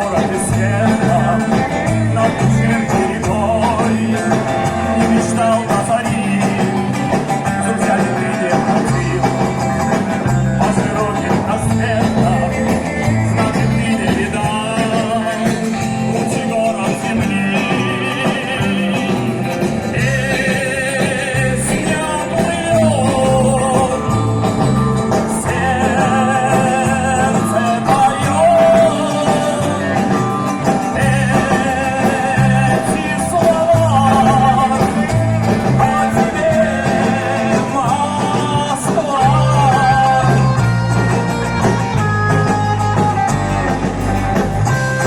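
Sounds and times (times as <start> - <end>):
live rock band music: 0.0 - 45.0.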